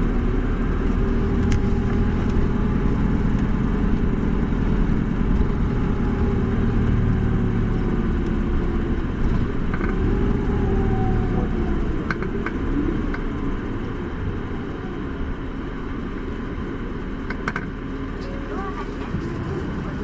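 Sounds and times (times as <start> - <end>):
bus engine and road noise: 0.0 - 20.0.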